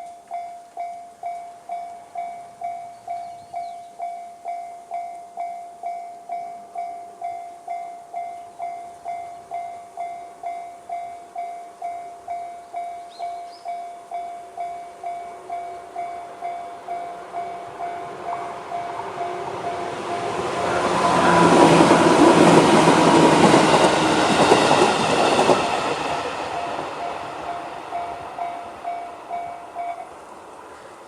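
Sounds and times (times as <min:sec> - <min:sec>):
electric train passing: 0:00.8 - 0:31.0.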